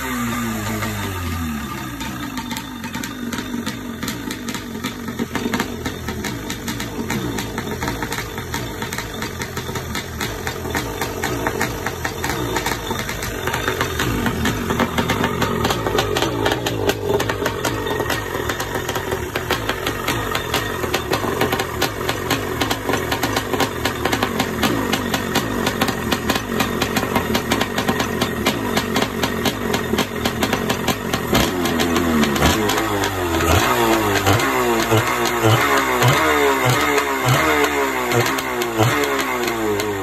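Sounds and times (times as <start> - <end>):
two-stroke engine revving: 0.0 - 40.0.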